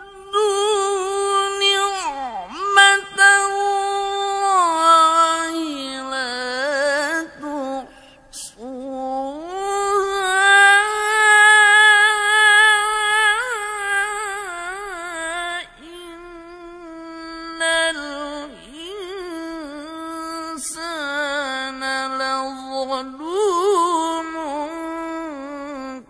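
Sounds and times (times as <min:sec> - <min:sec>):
man reciting in high melismatic voice: 0:00.0 - 0:26.0.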